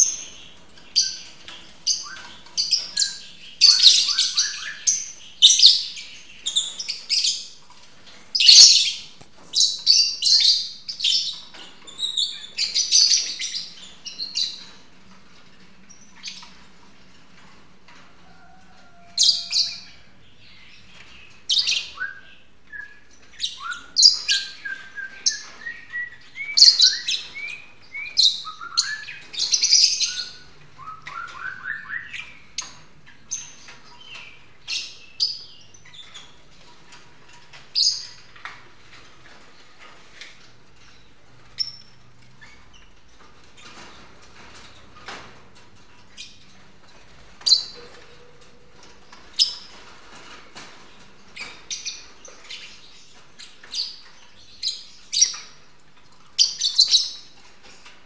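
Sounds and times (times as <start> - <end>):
lovebirds chirping and calling: 0.0 - 58.0.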